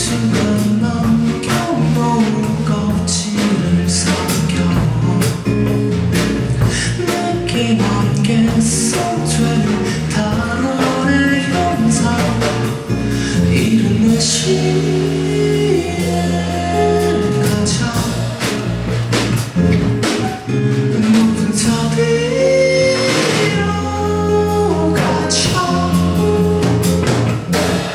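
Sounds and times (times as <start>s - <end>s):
man singing into a microphone: 0.0s - 5.8s, 6.6s - 18.6s, 20.8s - 26.9s
acoustic guitar: 0.0s - 27.9s.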